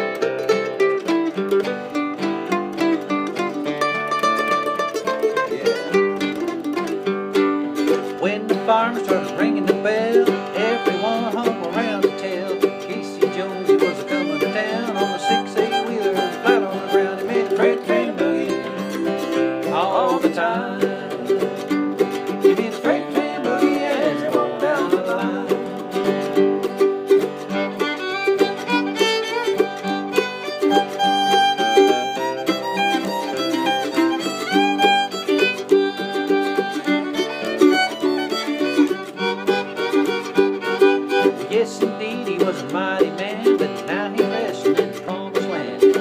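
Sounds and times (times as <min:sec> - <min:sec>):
acoustic guitar rhythm: 0:00.0 - 0:46.0
string instruments lead lines: 0:00.0 - 0:46.0.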